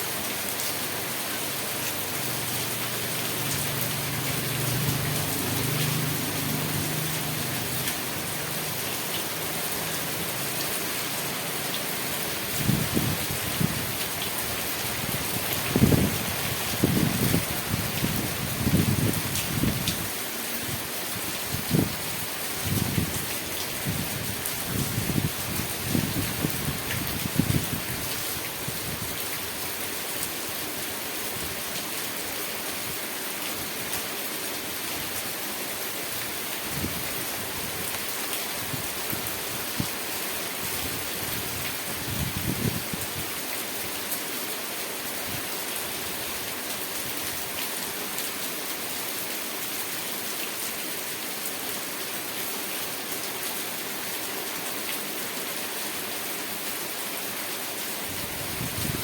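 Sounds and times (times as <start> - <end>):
rain hissing: 0.0 - 49.9.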